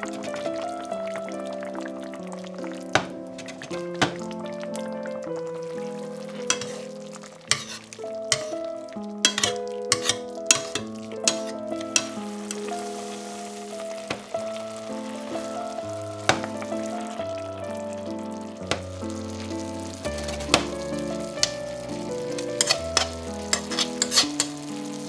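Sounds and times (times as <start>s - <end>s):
sauce sizzling and bubbling: 0.0s - 25.0s
soft background music: 0.0s - 25.0s.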